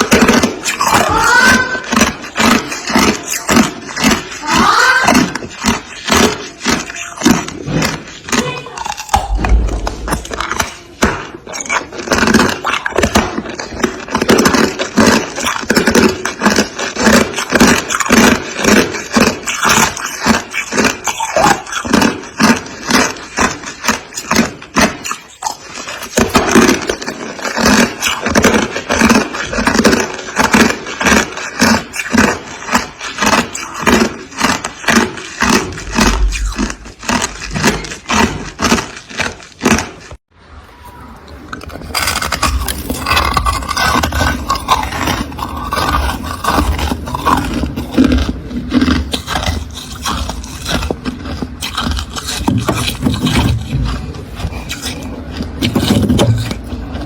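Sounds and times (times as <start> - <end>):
freezer frost being scraped: 0.0 - 40.2, 40.9 - 57.0.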